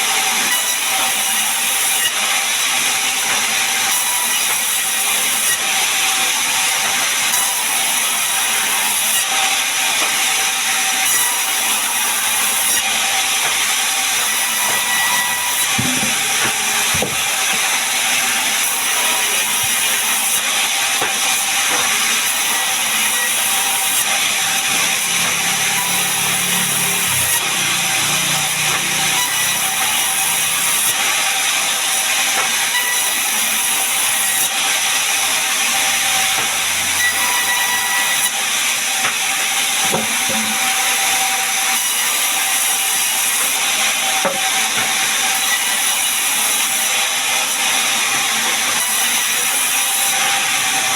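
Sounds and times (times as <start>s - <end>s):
saw blade cutting wood: 0.0s - 50.9s.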